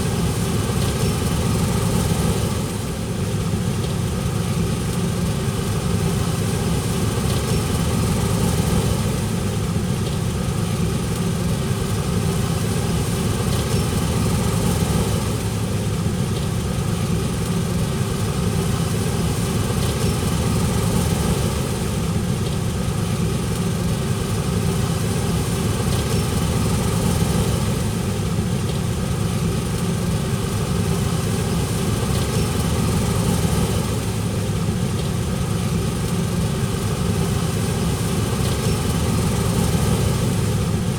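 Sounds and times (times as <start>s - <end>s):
heavy machinery engine running: 0.0s - 40.9s.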